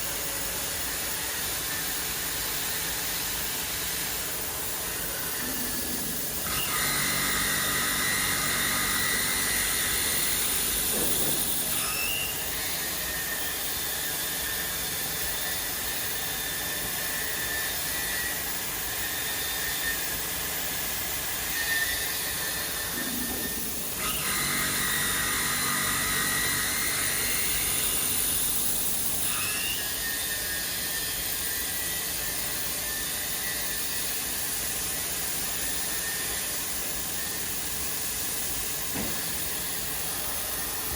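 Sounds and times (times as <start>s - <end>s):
high machine whine: 0.0s - 40.9s.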